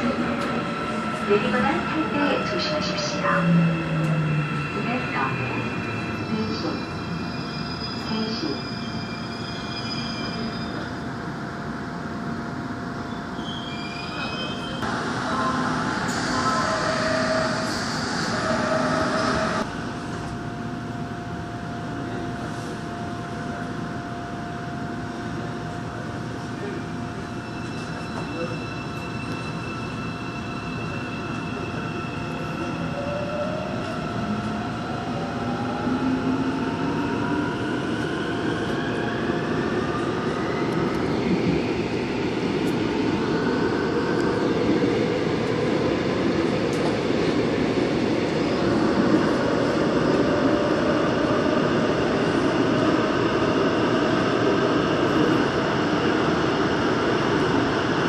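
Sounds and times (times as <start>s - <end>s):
subway train brakes squealing: 0.0s - 11.3s, 13.0s - 20.3s, 26.2s - 58.0s.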